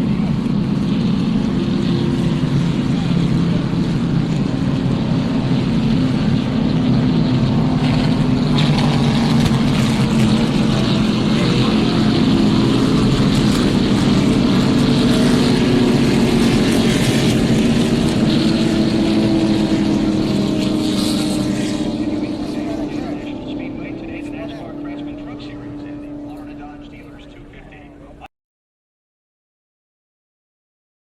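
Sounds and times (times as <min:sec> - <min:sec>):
stock car engine running: 0:00.0 - 0:28.3.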